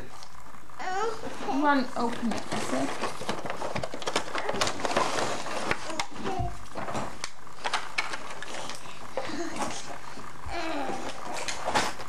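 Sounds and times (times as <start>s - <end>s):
present wrapping rustling: 0.8s - 12.0s.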